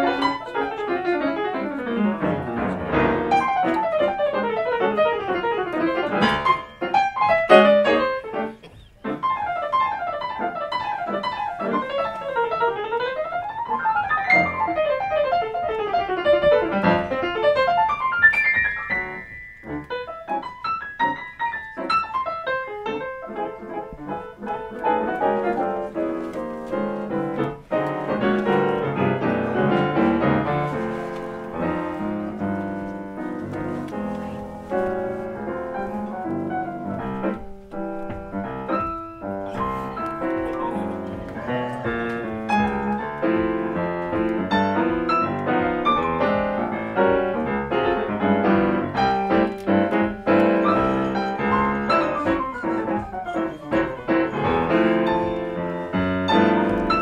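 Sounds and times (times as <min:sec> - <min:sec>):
jazz piano duet: 0:00.0 - 0:57.0.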